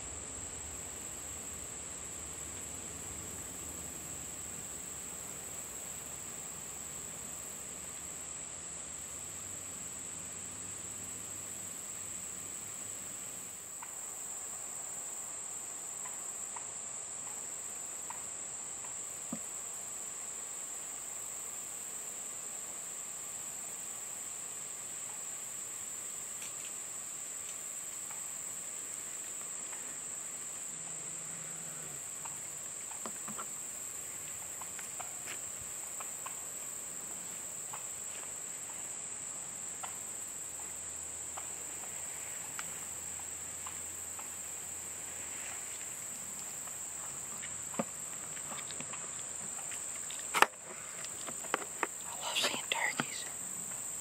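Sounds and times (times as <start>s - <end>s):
insects droning: 0.0s - 54.0s
faint ticks and rustles: 1.0s - 8.2s, 10.5s - 54.0s.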